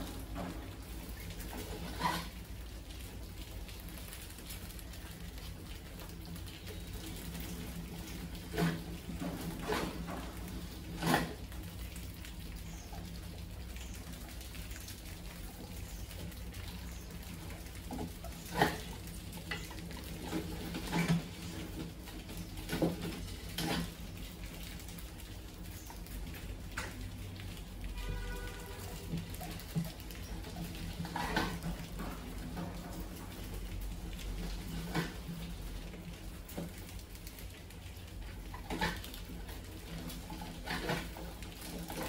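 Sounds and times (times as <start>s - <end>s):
low background hum: 0.0s - 42.0s
rats scrabbling on glass and metal: 0.0s - 42.0s.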